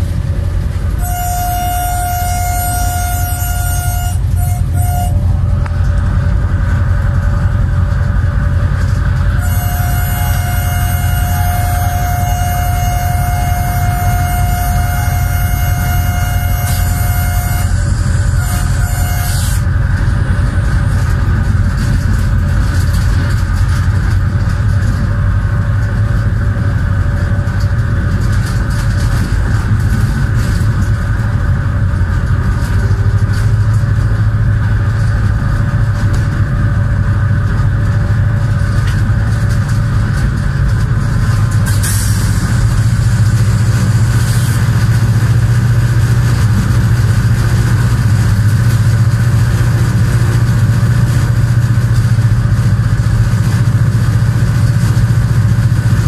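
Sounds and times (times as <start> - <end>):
locomotive engine drone: 0.0 - 56.0
train running on rails: 0.0 - 56.0.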